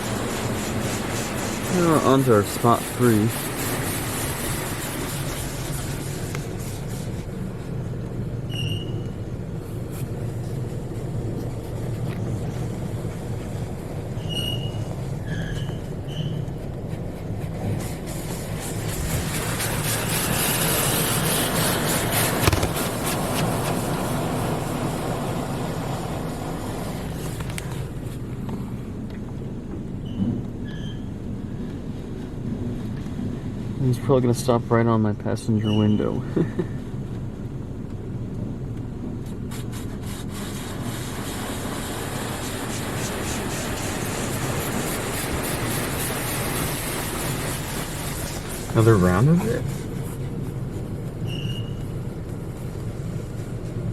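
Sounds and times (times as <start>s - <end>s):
car wash water spray hiss: 0.0s - 29.6s, 39.1s - 53.9s.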